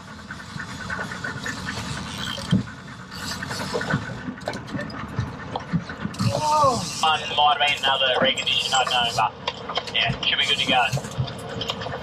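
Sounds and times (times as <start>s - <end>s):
boat motor droning: 0.0s - 12.0s
water: 0.0s - 12.0s.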